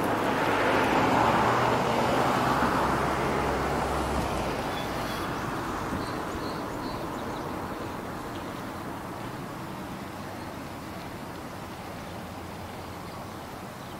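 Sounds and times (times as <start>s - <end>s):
vehicle passing: 0.0s - 13.6s.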